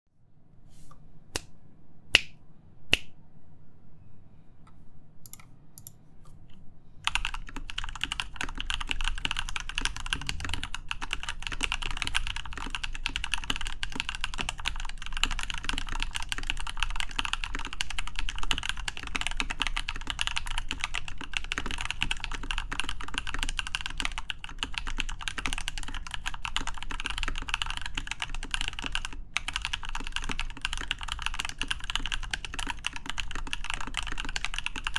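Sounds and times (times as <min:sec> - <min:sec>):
mechanical keyboard typing: 0:05.3 - 0:06.0, 0:07.1 - 0:34.9.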